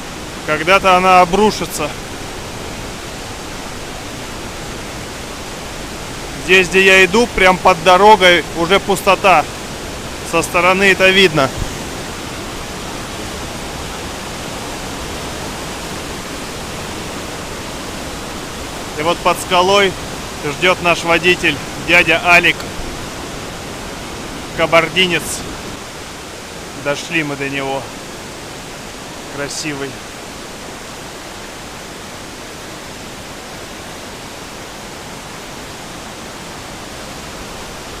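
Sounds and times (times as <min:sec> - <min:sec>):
mountain river rushing: 0:00.0 - 0:38.0.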